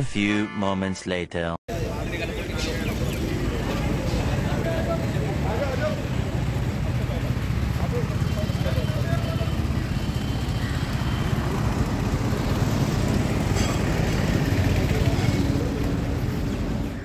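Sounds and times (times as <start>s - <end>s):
motorcycle engine: 1.7s - 17.0s.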